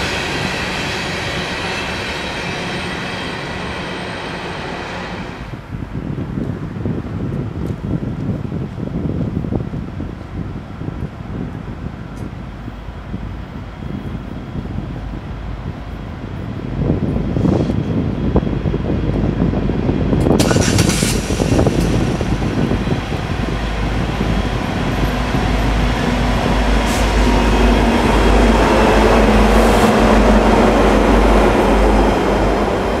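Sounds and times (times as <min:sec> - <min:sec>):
diesel locomotive passing: 0:00.0 - 0:07.1, 0:08.8 - 0:33.0.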